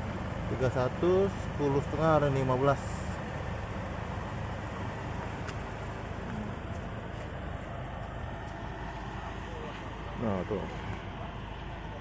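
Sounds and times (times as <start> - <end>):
engine low rumble: 0.0 - 12.0
road traffic: 0.0 - 12.0.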